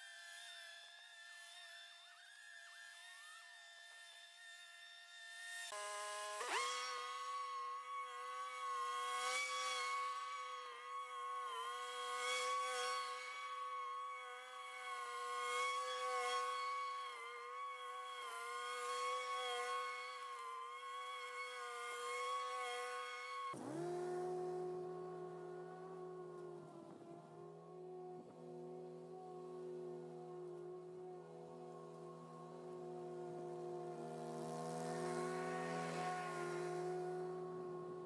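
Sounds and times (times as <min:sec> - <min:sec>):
lawn mower engine drone: 0:05.7 - 0:38.0.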